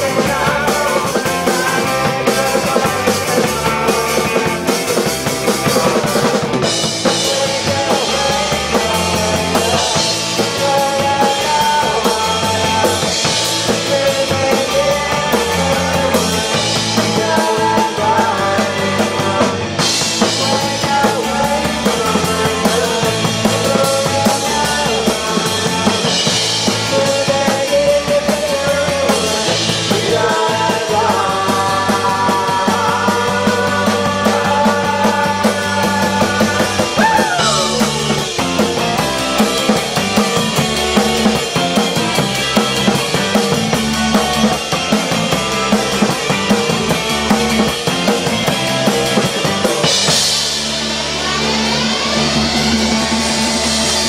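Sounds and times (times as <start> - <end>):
drum kit: 0.0 - 54.0
electric bass guitar: 0.0 - 54.0
electric guitar: 0.0 - 54.0.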